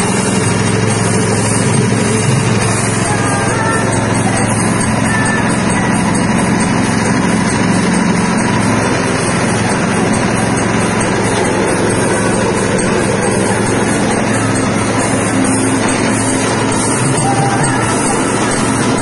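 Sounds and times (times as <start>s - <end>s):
machine droning with hiss: 0.0s - 19.0s.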